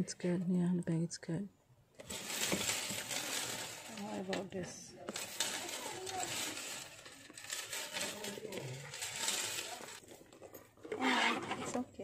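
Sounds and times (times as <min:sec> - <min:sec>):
handbag rustling and scraping: 0:02.0 - 0:12.0.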